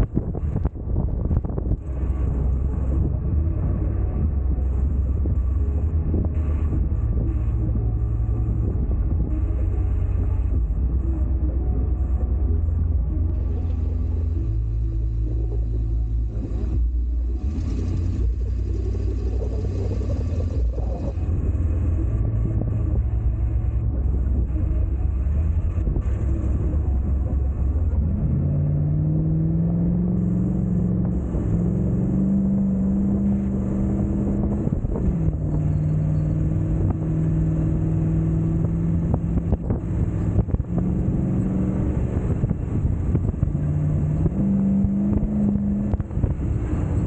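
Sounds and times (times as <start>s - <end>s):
low rumble: 0.0s - 47.0s
vehicle engine revving: 0.0s - 47.0s.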